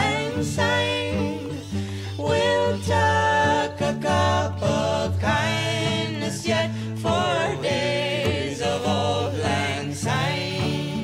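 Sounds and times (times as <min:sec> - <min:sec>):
singing voices: 0:00.0 - 0:11.0.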